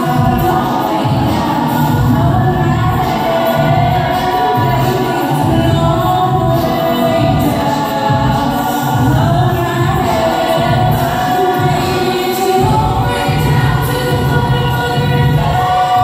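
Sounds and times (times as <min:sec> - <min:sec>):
group singing in harmony: 0:00.0 - 0:16.0.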